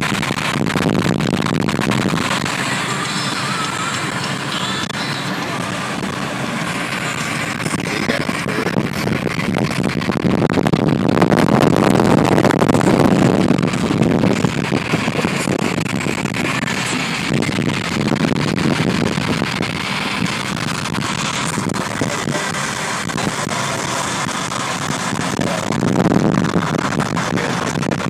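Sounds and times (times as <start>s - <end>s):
car road and wind noise: 0.0s - 28.0s.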